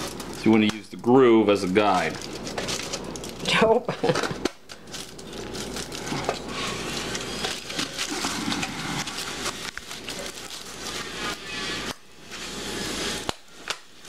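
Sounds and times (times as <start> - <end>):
aluminum foil crinkling: 0.0 - 12.4.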